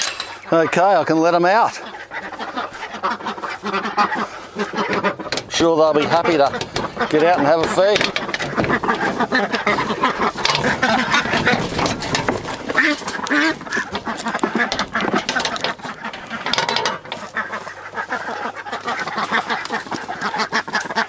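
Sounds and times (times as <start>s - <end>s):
ducks quacking: 0.0s - 21.0s.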